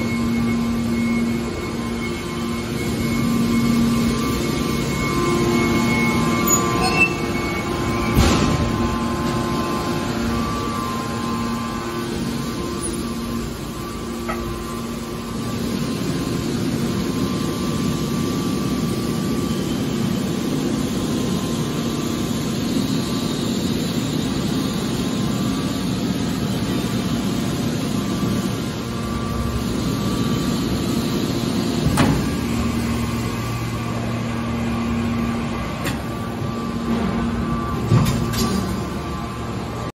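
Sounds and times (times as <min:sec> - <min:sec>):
hydraulic machine hum: 0:00.0 - 0:39.9.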